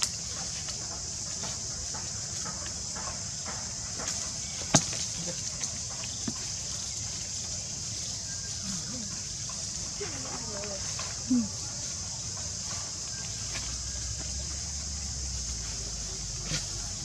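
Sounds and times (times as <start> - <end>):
steady high-pitched hiss: 0.0 - 17.0.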